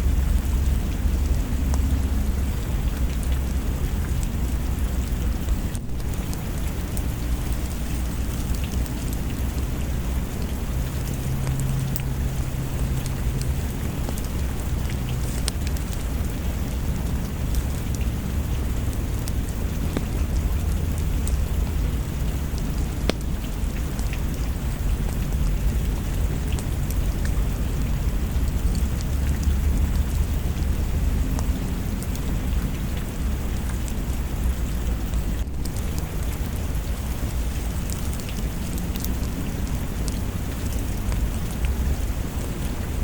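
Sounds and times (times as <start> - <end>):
sharp ticks of raindrops: 0.0 - 43.0
steady rain: 0.0 - 43.0.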